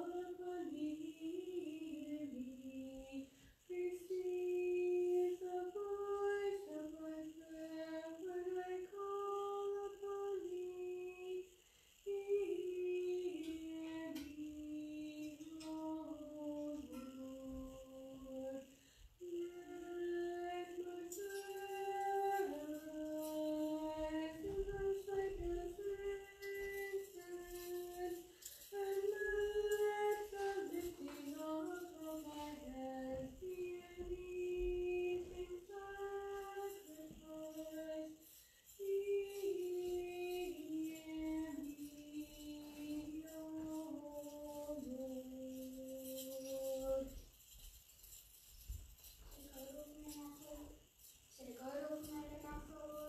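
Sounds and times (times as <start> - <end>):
women singing liturgical chant: 0.0 - 11.5, 12.1 - 38.2, 38.8 - 47.2.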